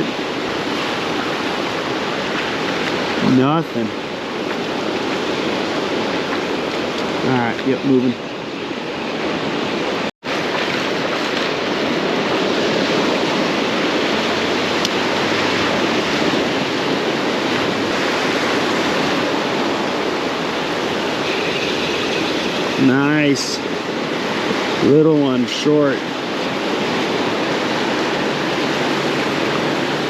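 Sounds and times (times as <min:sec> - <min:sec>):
ocean surf washing on beach: 0:00.0 - 0:30.0.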